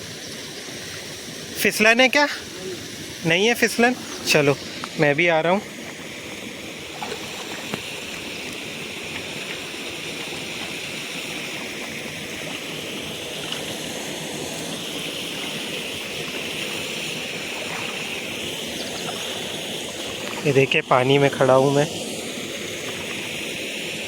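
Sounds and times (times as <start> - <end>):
stream water pouring over dam: 0.0 - 24.0.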